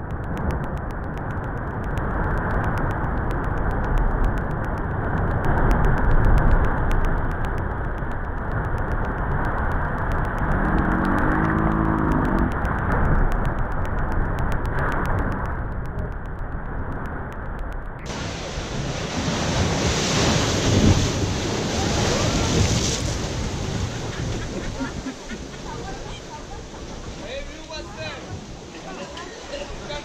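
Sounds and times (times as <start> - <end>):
sea water rushing through rocks: 0.0 - 30.0.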